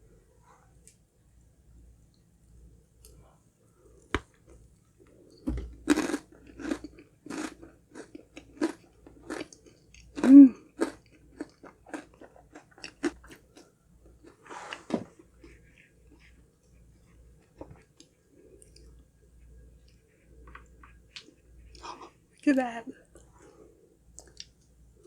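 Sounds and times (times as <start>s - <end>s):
chewing crunchy cake: 4.2s - 22.4s, 23.0s - 25.0s.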